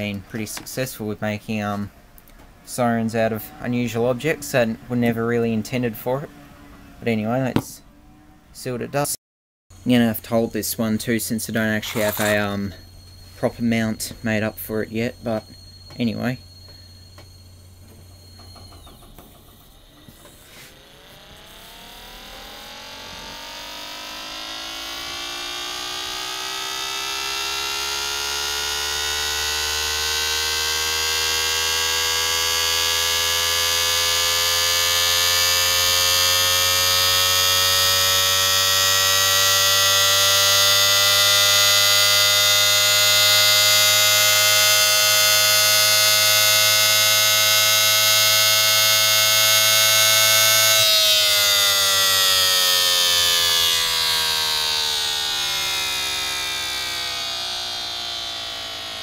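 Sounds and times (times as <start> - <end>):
low motor hum: 0.0 - 8.8, 9.8 - 59.0
siren wailing: 0.8 - 9.0, 10.0 - 59.0.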